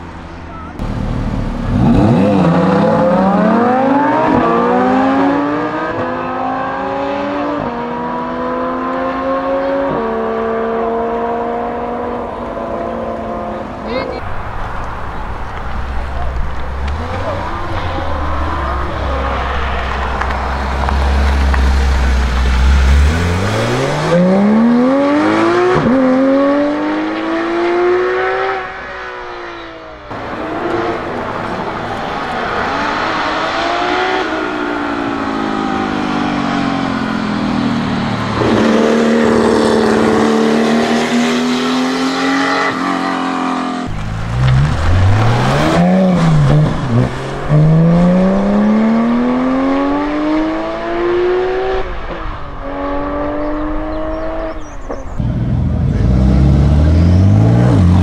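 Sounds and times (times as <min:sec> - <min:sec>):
sports car engines accelerating: 0:00.0 - 0:58.0.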